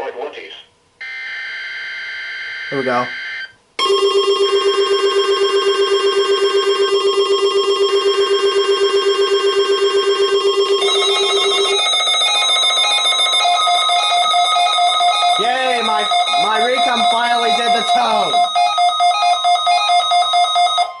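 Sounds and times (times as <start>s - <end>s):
higher pulsed alarm tone: 1.0s - 21.0s
receiver alarm beeping: 1.0s - 21.0s
steady warning tone: 1.0s - 21.0s.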